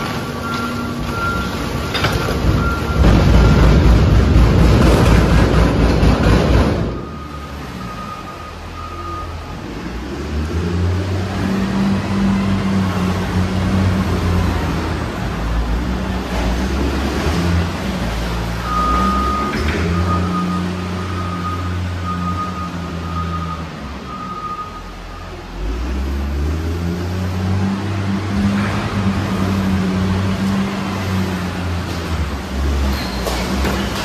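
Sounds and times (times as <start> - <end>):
wheel loader diesel engine droning: 0.0 - 34.0.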